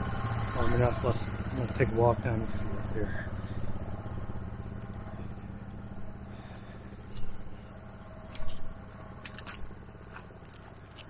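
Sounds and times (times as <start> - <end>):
four-wheeler engines idling: 0.0 - 11.0.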